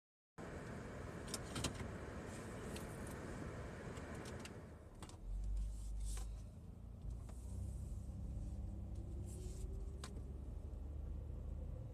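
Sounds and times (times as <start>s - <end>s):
low in-car noise: 0.4s - 11.9s.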